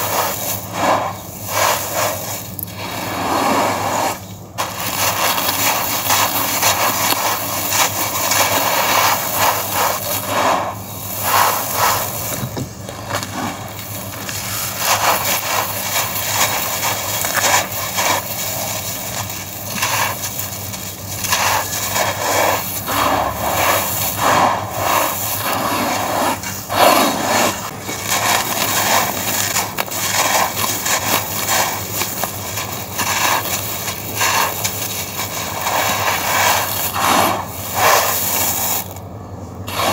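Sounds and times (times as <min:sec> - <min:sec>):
gritty sand crunching by hand: 0:00.0 - 0:39.1, 0:39.7 - 0:39.9.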